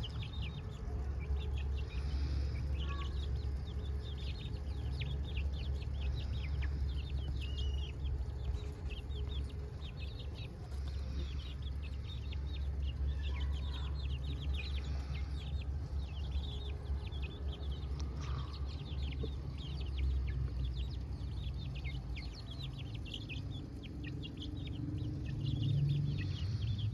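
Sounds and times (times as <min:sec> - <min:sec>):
chickens cheeping: 0:00.0 - 0:26.9
chickens clucking: 0:00.0 - 0:26.9
steady low rumble: 0:00.0 - 0:26.9.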